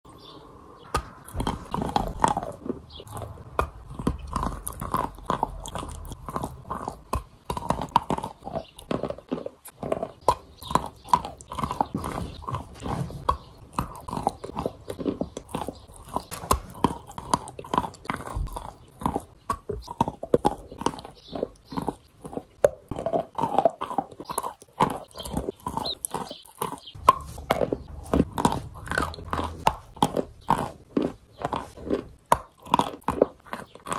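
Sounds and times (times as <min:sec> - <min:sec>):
chalk crunching while chewed: 0:01.0 - 0:33.9.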